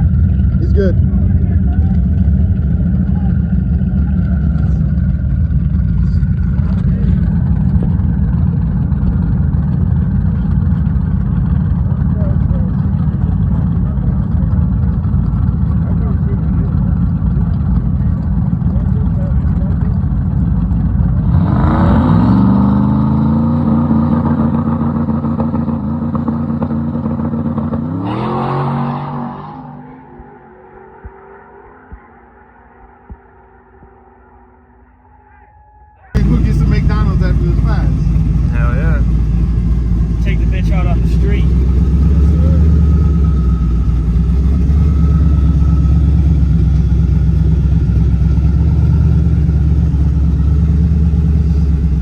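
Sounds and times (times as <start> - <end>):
race car engine revving: 0.0 - 33.4, 36.2 - 52.0.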